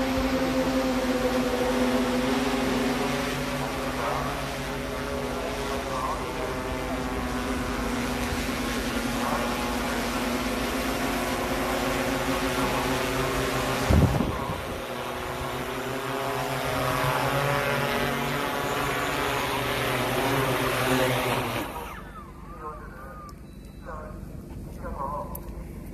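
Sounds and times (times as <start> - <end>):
drone motors humming: 0.0 - 25.9.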